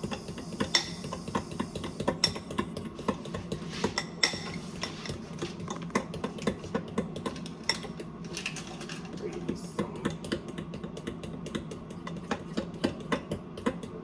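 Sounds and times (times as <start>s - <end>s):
utensil stirring batter in bowl: 0.0s - 13.9s.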